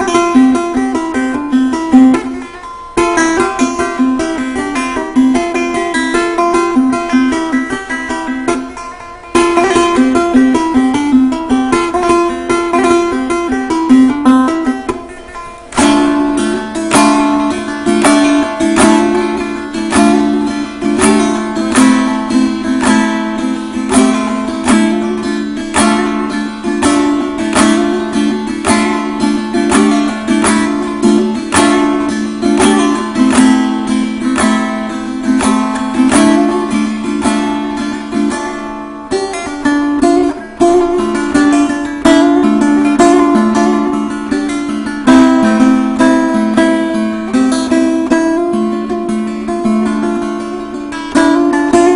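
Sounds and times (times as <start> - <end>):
plucked lute improvisation: 0.0 - 51.9.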